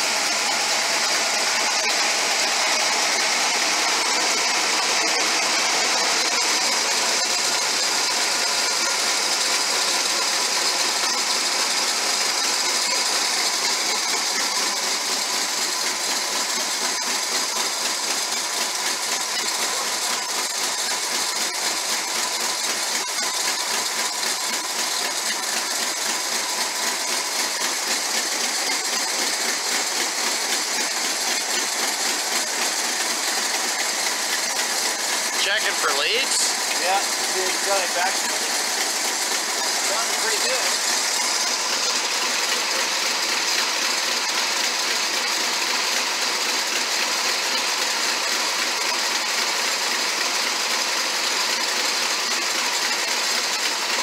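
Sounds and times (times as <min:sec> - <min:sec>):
car engine running steadily: 0:00.0 - 0:54.0.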